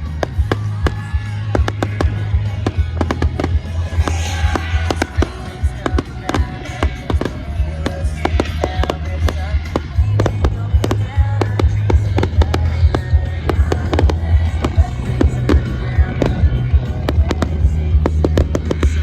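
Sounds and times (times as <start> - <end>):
fireworks bangs and crackles: 0.0 - 19.0
loud music with heavy bass: 0.0 - 19.0.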